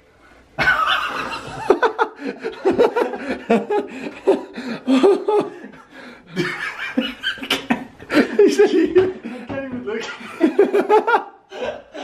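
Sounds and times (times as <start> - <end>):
man laughing hard: 0.6 - 12.0.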